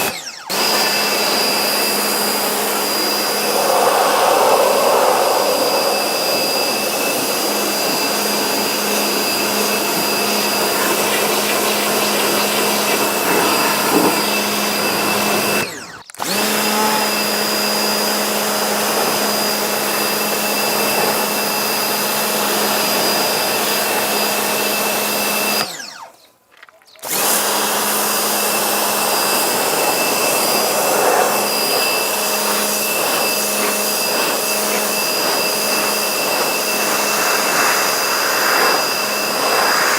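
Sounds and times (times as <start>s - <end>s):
electric motor humming and whining: 0.0s - 25.9s, 27.0s - 39.9s.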